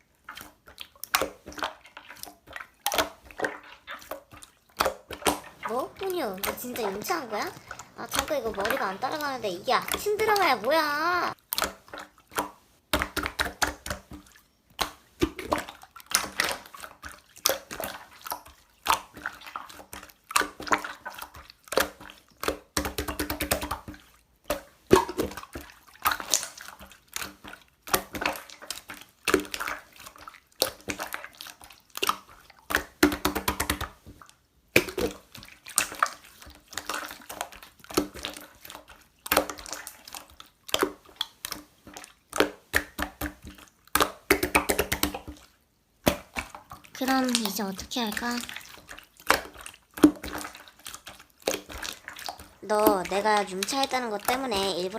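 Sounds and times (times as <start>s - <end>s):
slime squelching and popping: 0.1s - 54.9s.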